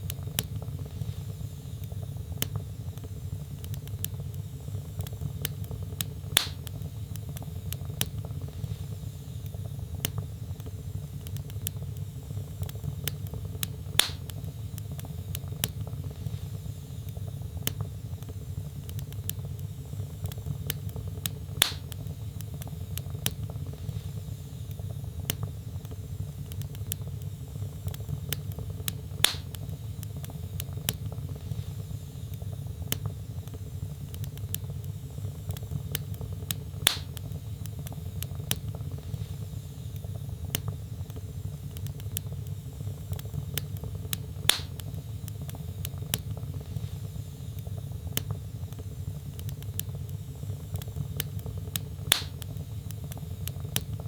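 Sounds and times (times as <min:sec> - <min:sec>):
loud pops from fire: 0:00.0 - 0:54.0
wood fire crackling: 0:00.0 - 0:54.0.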